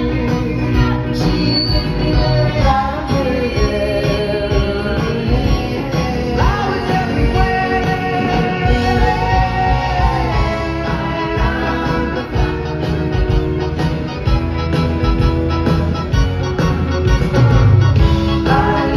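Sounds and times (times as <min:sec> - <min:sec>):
pop-rock band playing: 0:00.0 - 0:18.9.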